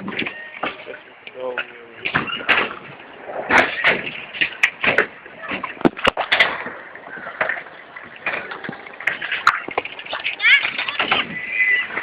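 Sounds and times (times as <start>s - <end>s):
scooters clacking on concrete: 0.0s - 12.0s.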